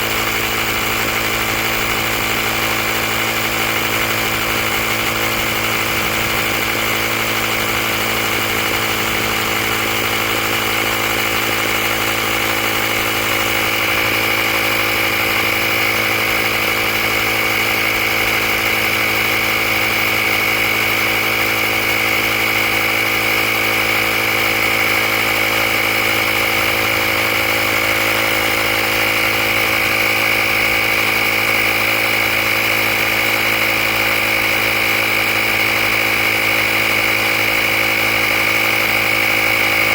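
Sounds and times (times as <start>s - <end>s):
air compressor whining: 0.0s - 39.9s.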